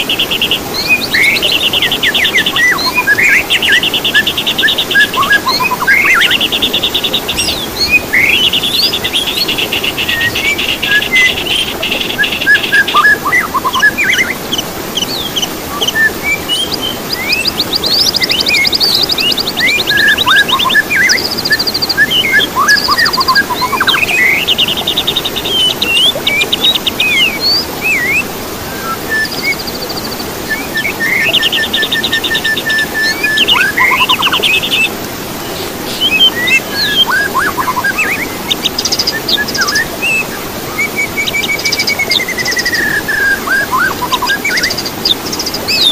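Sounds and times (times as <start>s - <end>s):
songbirds singing: 0.0s - 45.9s
steady background hiss: 0.0s - 45.9s.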